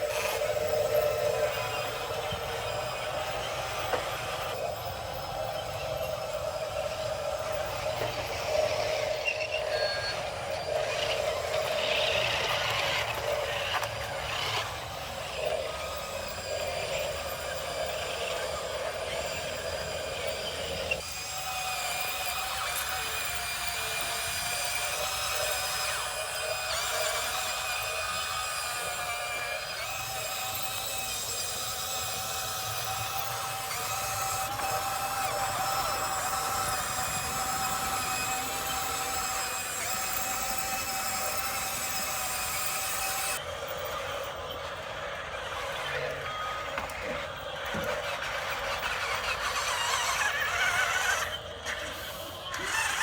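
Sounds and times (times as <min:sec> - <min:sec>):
toy vehicle motors whining: 0:00.0 - 0:53.0.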